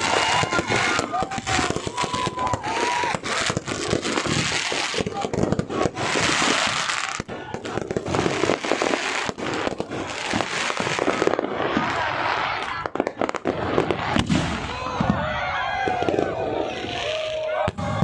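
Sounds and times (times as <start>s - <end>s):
fireworks bangs and pops: 0.0s - 18.0s
fireworks crackling: 0.0s - 18.0s.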